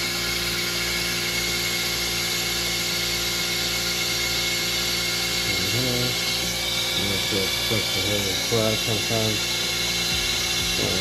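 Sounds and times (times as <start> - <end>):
vacuum tool hissing with whine: 0.0 - 11.0.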